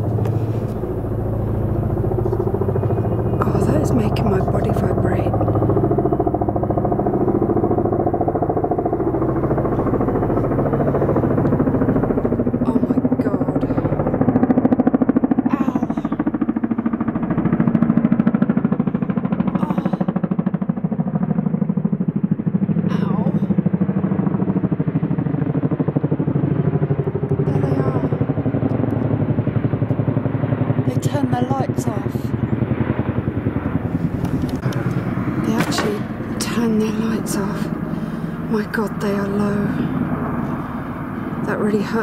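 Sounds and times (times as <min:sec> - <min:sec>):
helicopter engine drone: 0:00.0 - 0:42.0
helicopter rotor chop: 0:00.0 - 0:42.0.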